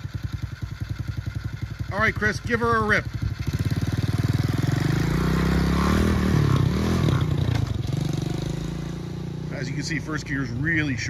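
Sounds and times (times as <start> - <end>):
moped engine accelerating: 0.0 - 11.0.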